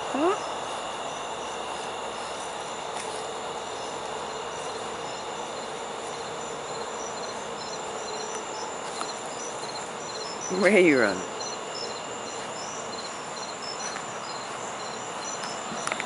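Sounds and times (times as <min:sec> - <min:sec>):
crickets chirping: 0:00.0 - 0:16.0
steady background hiss: 0:00.0 - 0:16.0.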